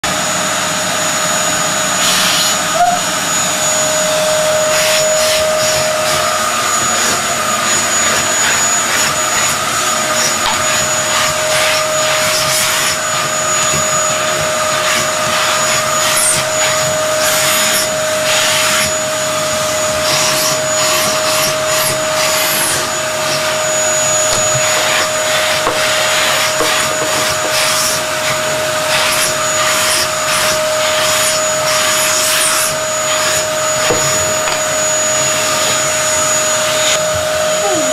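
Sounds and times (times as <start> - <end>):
vacuum cleaner whining: 0.0 - 37.9.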